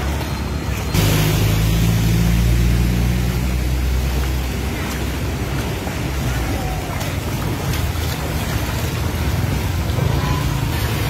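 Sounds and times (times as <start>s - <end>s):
vehicle engine humming: 0.0s - 11.0s
wind and water hiss: 1.0s - 11.0s.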